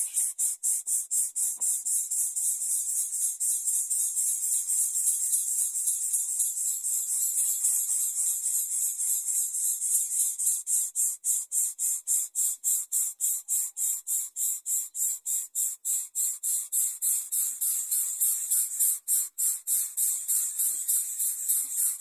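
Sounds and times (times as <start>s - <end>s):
insect rasping buzz: 0.0s - 22.0s.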